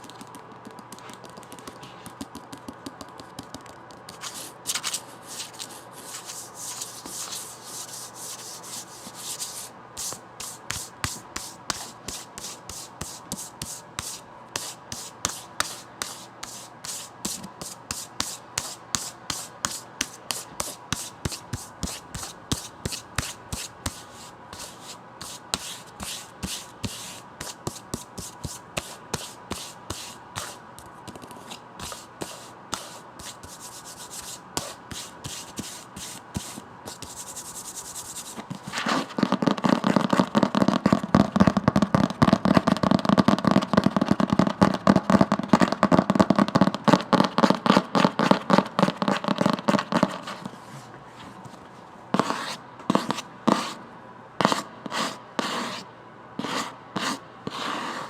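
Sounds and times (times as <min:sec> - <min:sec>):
hands rubbing and scratching a book: 0:00.0 - 0:41.1, 0:48.0 - 0:53.8, 0:56.4 - 0:58.0.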